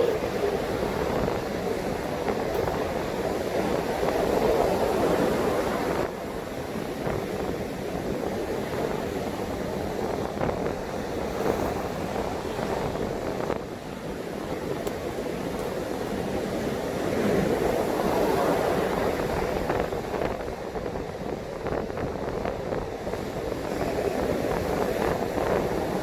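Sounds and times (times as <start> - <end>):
strong wind: 0.0 - 26.0.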